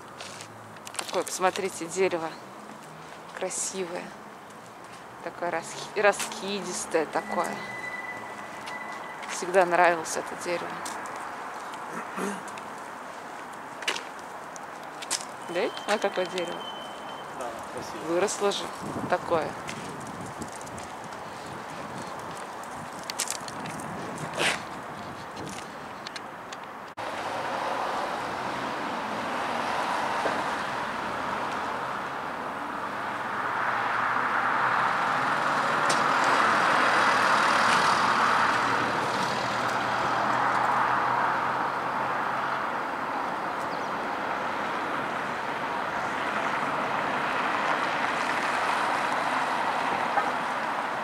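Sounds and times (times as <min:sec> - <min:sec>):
passing vehicles rushing: 0:00.0 - 0:51.0.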